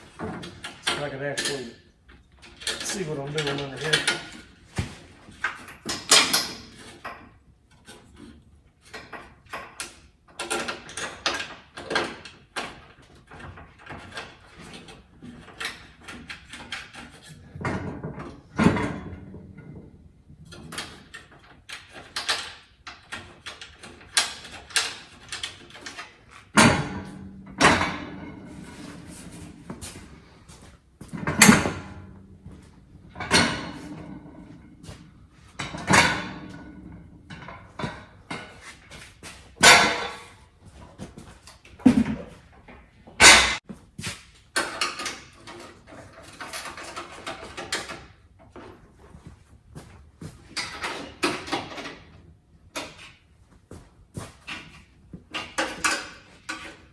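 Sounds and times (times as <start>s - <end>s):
hand tools and metal parts clinking: 0.0s - 19.3s, 19.9s - 52.1s.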